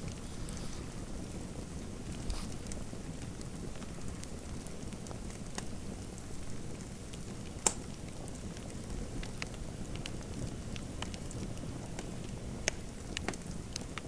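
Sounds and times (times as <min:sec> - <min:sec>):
fire crackling: 0:00.0 - 0:14.0
fire popping: 0:00.0 - 0:14.0
sharp crack of fire: 0:00.0 - 0:14.0.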